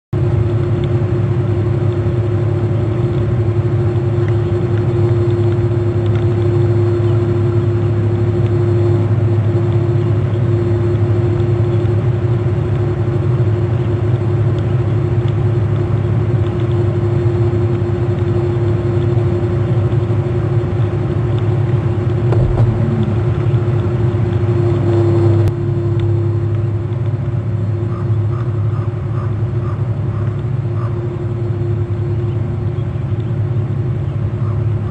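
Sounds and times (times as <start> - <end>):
constant hum: 0.2 - 34.9
low mechanical rumble: 0.2 - 34.9.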